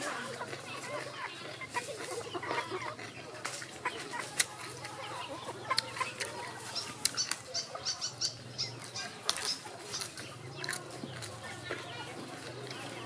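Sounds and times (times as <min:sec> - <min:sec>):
chickens clucking: 0:00.0 - 0:13.0
leafy greens crackling: 0:00.0 - 0:13.0.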